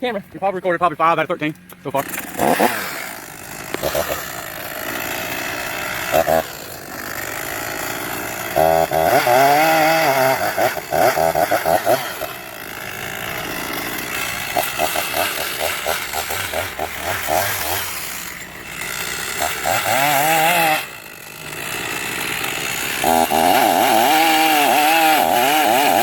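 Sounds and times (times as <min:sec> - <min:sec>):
chainsaw cutting wood: 0:01.4 - 0:26.0.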